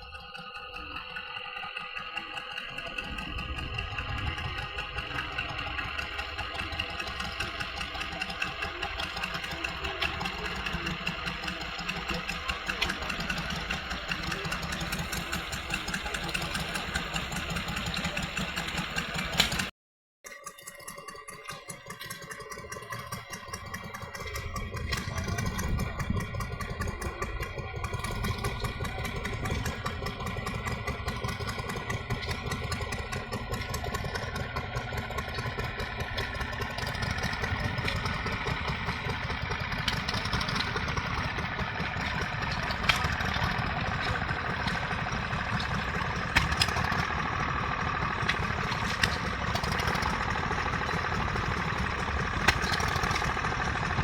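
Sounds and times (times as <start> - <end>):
stationary engine running: 0.0 - 19.7, 20.3 - 54.0.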